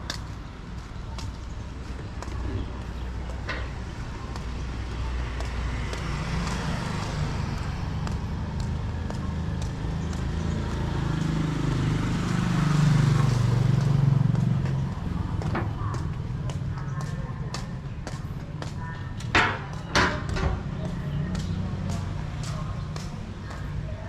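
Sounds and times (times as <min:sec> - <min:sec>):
traffic noise: 0:00.0 - 0:24.0
vehicle engine running: 0:00.0 - 0:24.0.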